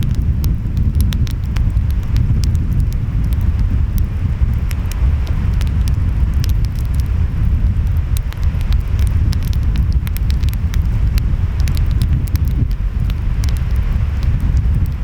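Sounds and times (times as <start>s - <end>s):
wind: 0.0s - 15.0s
wood fire crackling and popping: 0.0s - 15.0s.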